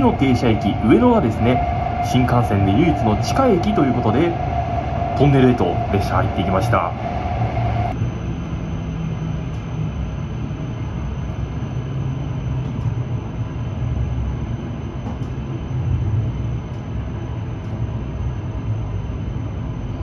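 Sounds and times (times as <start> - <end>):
train rumble from inside: 0.0 - 20.0.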